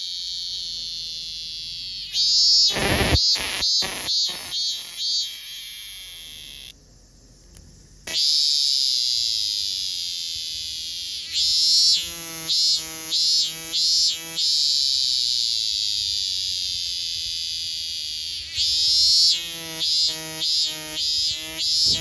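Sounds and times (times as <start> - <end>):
cicada singing: 0.0 - 22.0.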